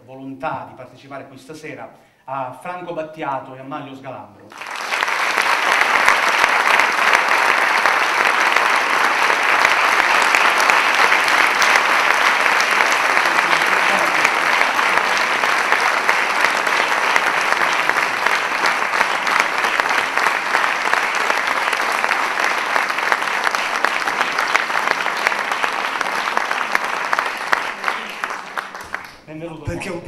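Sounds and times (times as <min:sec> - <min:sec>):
audience applauding: 0:04.5 - 0:30.0.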